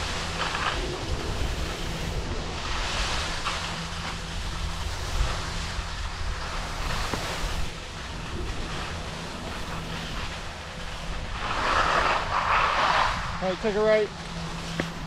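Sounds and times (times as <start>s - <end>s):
skis hissing over snow: 0.0s - 15.0s
wind buffeting microphone: 0.0s - 15.0s.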